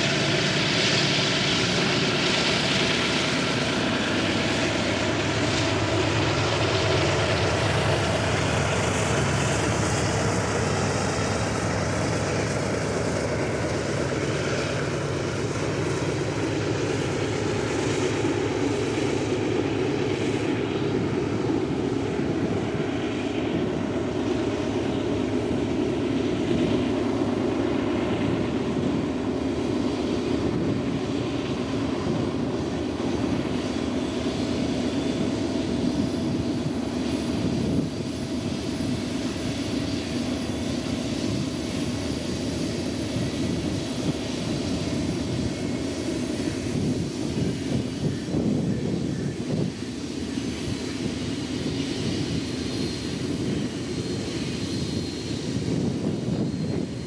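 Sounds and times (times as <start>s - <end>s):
diesel locomotive engine drone: 0.0s - 57.0s
freight train rumble: 0.0s - 57.0s.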